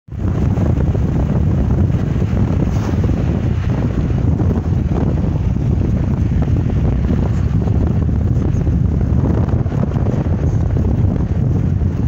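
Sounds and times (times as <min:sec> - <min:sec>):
road noise: 0:00.1 - 0:12.0
wind buffeting microphone: 0:00.1 - 0:12.0.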